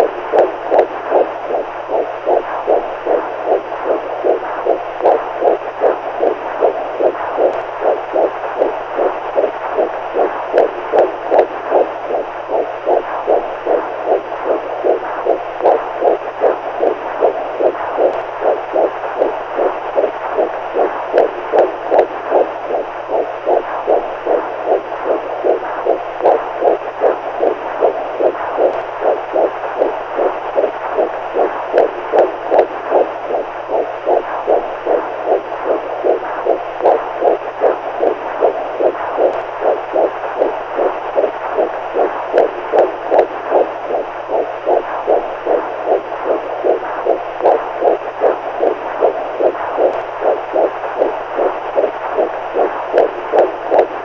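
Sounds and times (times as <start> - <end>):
constant hiss: 0.0 - 54.0
steady heartbeat: 0.0 - 54.0.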